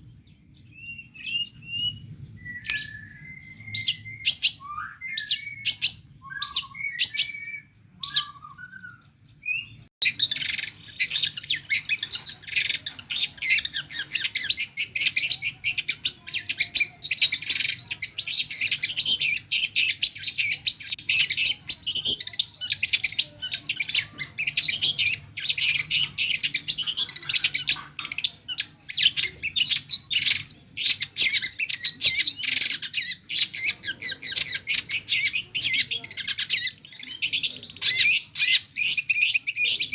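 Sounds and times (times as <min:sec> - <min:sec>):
shrike singing: 0:00.7 - 0:39.9.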